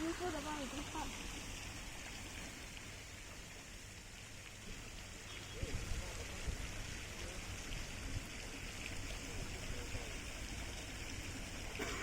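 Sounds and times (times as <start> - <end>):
running water trickling: 0.0 - 12.0.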